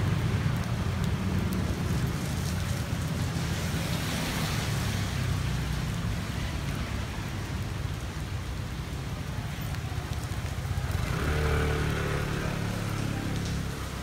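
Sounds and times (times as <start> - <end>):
hiss of falling rain: 0.0 - 14.0.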